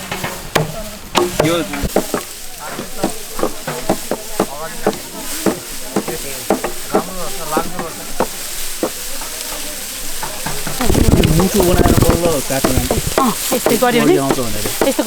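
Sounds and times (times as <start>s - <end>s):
crackling and rustling clicks: 0.0s - 15.0s
voices talking: 0.0s - 15.0s.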